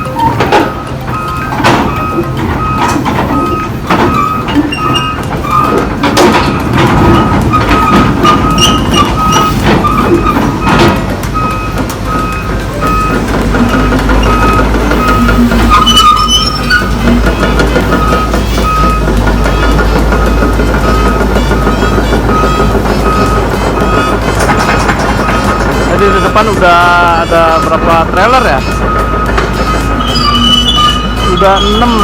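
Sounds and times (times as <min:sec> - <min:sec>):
clanks: 0:00.0 - 0:32.0
diesel engine running: 0:00.0 - 0:32.0
reversing alarm beeping: 0:00.0 - 0:32.0.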